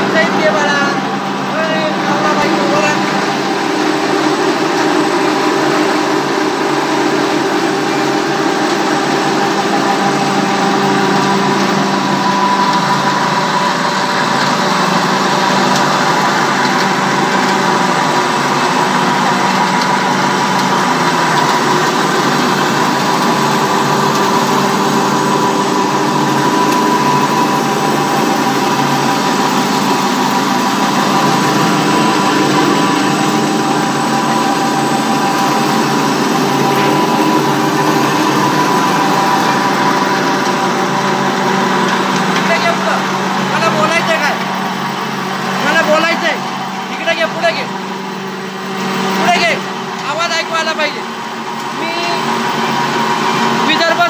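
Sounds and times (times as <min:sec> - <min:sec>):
pellet mill droning: 0:00.0 - 0:54.0.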